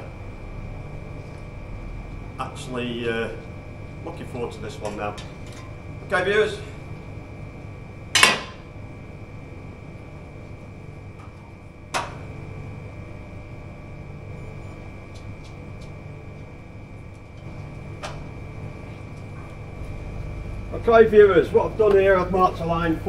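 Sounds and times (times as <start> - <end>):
room hum: 0.0 - 23.0.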